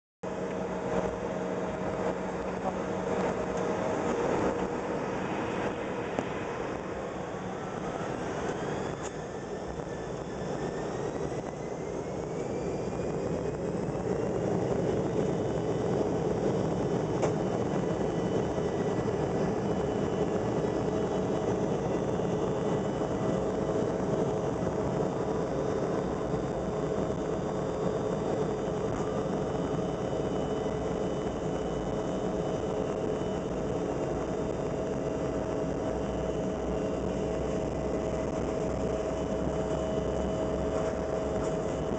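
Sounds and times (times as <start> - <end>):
jet engines spooling up and rumbling: 0.2 - 41.9.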